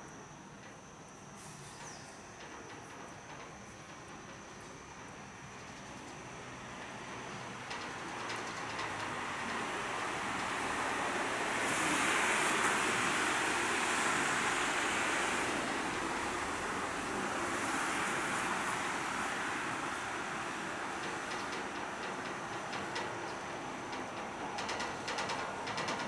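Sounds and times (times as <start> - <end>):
monorail train rushing: 1.8 - 26.0
street traffic: 4.2 - 26.0.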